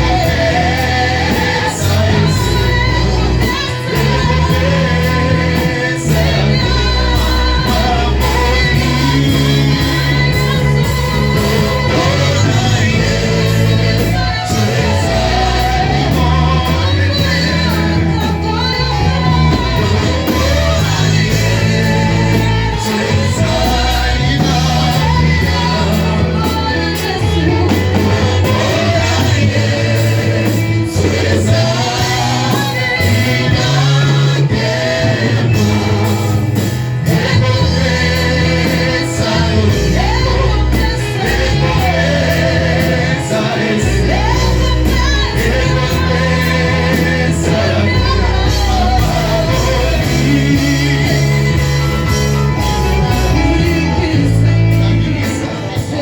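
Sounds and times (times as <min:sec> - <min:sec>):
gospel choir singing with band: 0:00.0 - 0:56.0.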